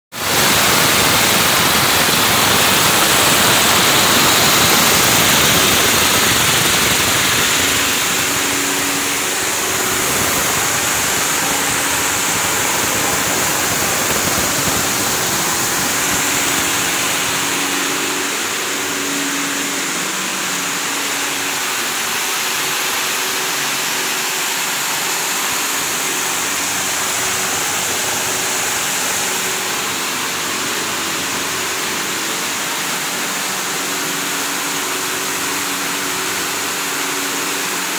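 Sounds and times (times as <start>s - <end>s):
conveyor machinery running: 0.2s - 37.9s.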